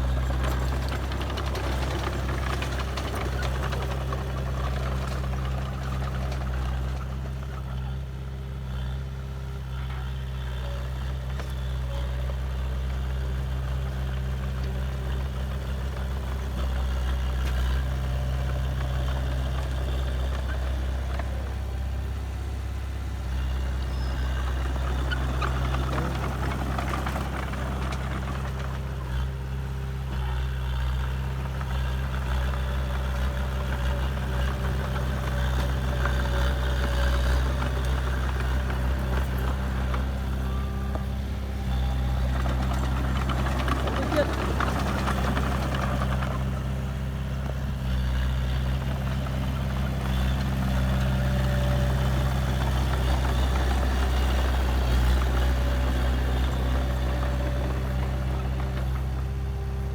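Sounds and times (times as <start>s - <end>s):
diesel engine running at low revs: 0.0s - 59.9s.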